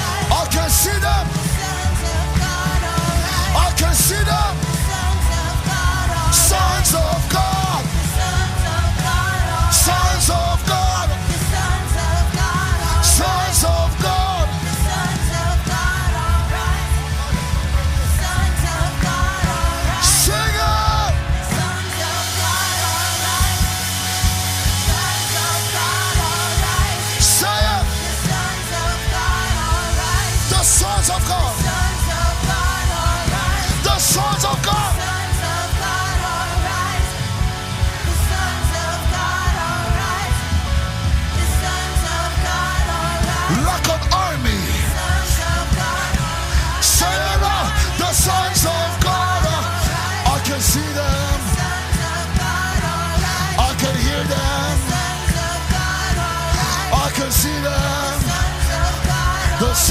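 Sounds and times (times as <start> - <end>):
live band with bass and drums: 0.0 - 59.9
person singing wordless vocals: 0.0 - 59.9.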